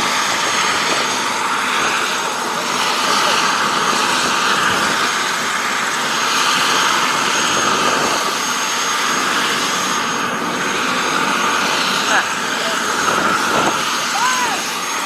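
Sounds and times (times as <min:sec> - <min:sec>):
helicopter engine and rotor: 0:00.0 - 0:15.0
high turbine whine: 0:00.0 - 0:15.0.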